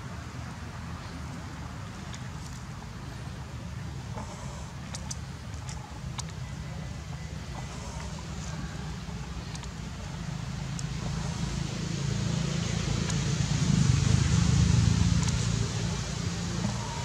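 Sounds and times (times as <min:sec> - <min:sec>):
motor engine humming: 0:01.8 - 0:17.0.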